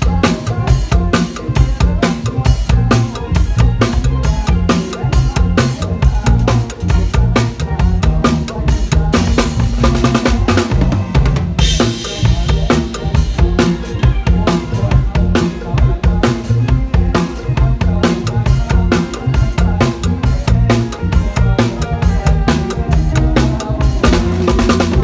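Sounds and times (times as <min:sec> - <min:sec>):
band music with drum kit: 0:00.0 - 0:25.0.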